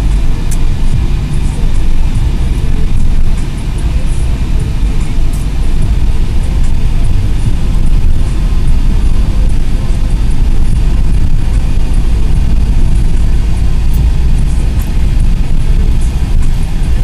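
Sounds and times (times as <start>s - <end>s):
car interior road and engine noise: 0.0s - 17.0s.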